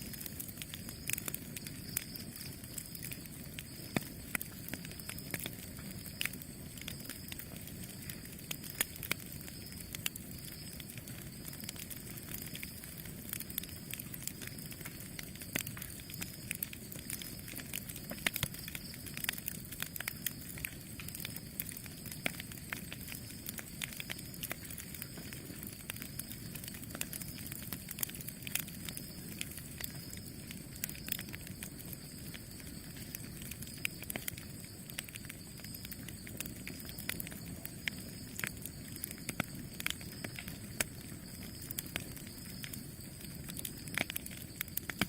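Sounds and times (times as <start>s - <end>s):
low noise of flames: 0.0s - 45.0s
wood crackling and popping: 0.0s - 45.0s.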